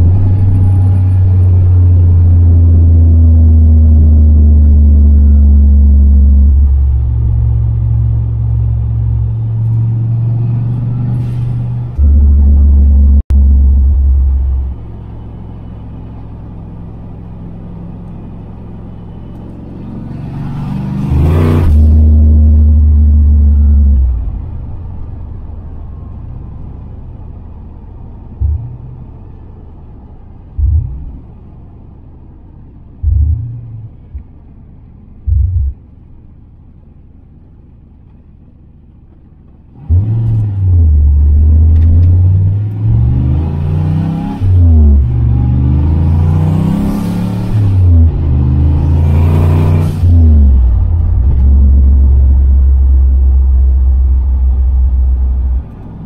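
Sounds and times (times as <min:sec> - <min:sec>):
turbocharged car engine: 0:00.0 - 0:56.0.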